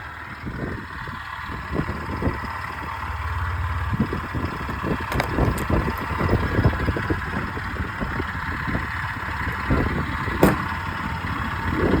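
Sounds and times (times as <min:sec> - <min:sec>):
scooter engine idling unevenly: 0:00.0 - 0:12.0.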